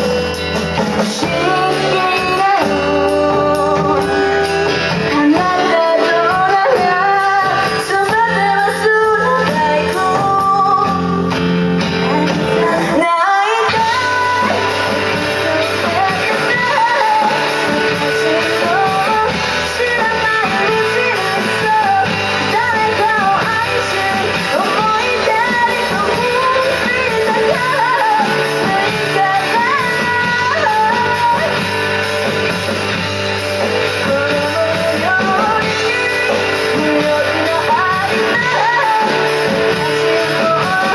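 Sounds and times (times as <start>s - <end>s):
rock band playing live: 0.0s - 40.9s
person singing: 0.9s - 32.3s, 33.6s - 40.9s.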